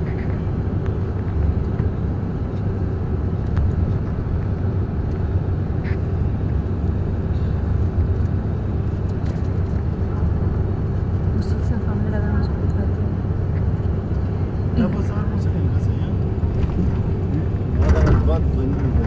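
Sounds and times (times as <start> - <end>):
moving vehicle low rumble: 0.0 - 19.0.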